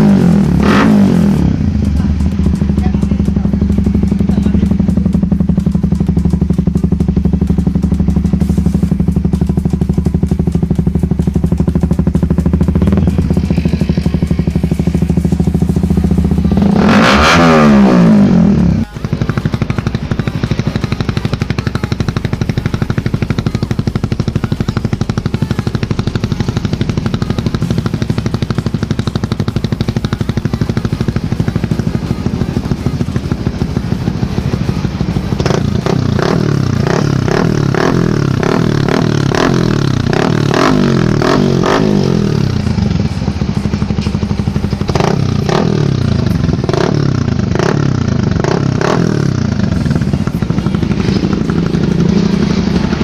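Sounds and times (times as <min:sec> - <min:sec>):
motorcycle engine idling: 0:00.0 - 0:53.0
motorcycle engine revving: 0:00.0 - 0:53.0.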